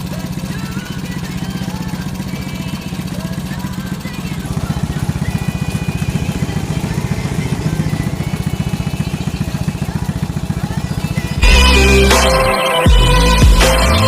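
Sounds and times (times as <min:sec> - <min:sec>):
motorcycle engine idling: 0:00.0 - 0:14.0
loud music: 0:00.2 - 0:14.0.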